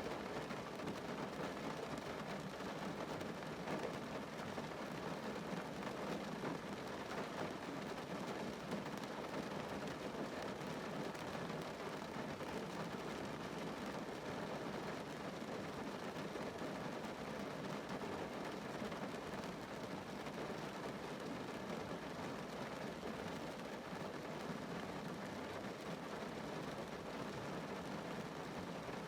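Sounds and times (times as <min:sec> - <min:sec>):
rain on car roof: 0:00.1 - 0:29.0.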